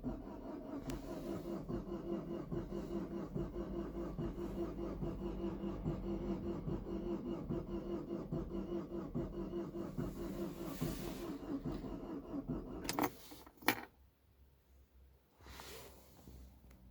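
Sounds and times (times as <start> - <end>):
car engine cranking: 0.0 - 13.8.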